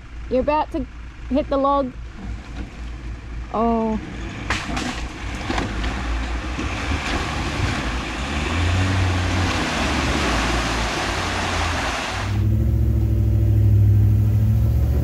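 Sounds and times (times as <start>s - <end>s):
vehicle engine working at low speed: 0.0s - 15.0s.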